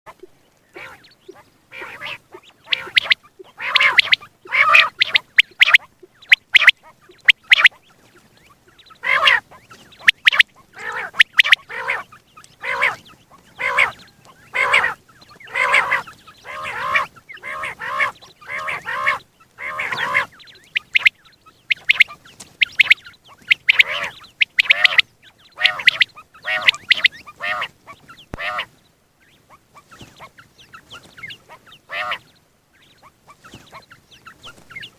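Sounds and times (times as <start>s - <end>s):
quail calling: 0.1s - 34.9s.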